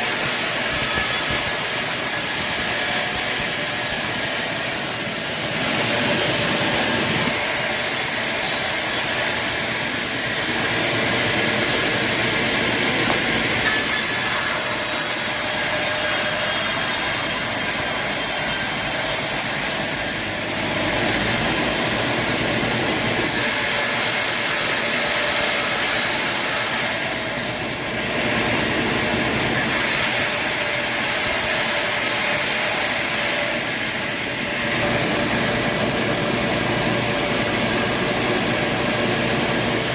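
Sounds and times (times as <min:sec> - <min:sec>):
sawmill machinery running: 0:00.0 - 0:39.9
saws cutting wood: 0:00.0 - 0:39.9.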